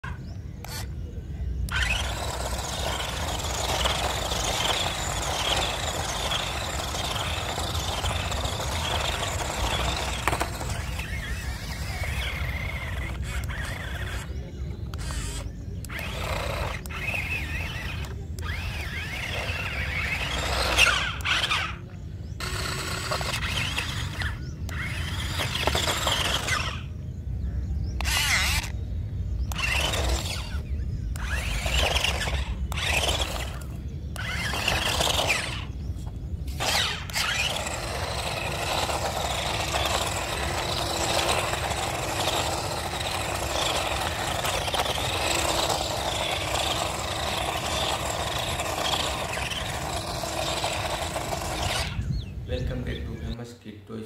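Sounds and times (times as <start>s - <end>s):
toy car motor whining: 0.0s - 27.0s, 27.8s - 52.4s.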